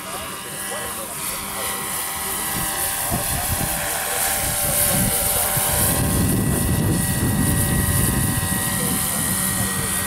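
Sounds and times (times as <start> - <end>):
helicopter rotor blades beating: 0.0 - 10.0
model helicopter turbine whine: 0.0 - 10.0.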